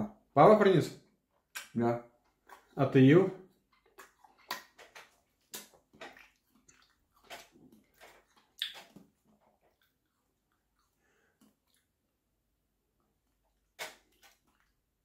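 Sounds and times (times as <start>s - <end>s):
person chewing watermelon: 1.6s - 2.9s, 3.5s - 12.2s, 13.0s - 15.0s.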